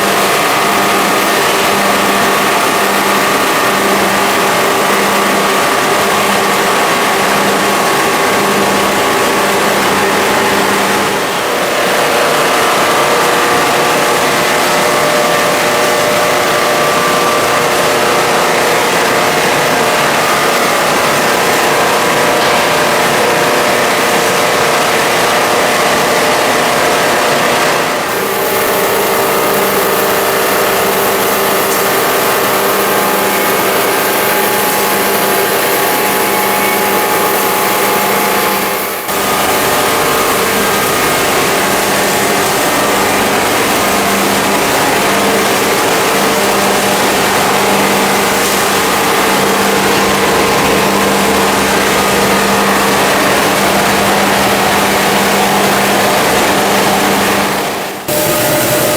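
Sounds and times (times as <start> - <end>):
machinery motor hum: 0.0 - 58.9.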